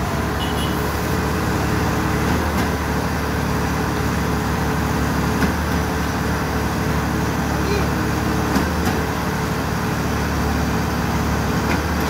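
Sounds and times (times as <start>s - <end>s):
truck engine drone: 0.0s - 12.0s.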